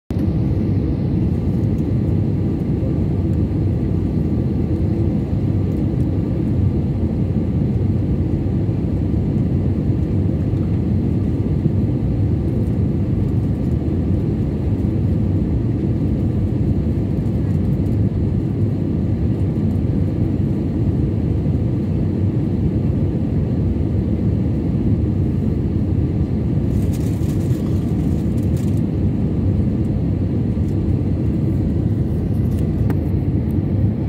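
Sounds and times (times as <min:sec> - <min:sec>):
airliner engines rumbling: 0:00.1 - 0:34.0.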